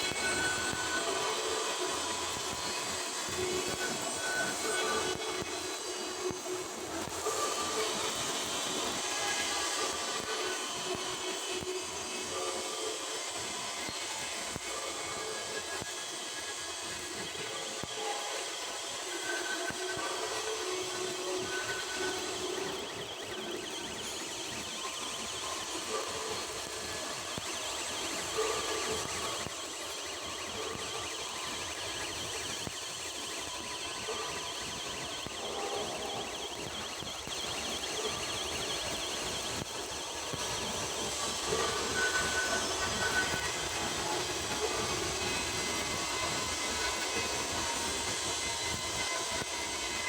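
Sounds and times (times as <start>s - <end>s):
welding arc crackling and hissing: 0.0s - 50.0s.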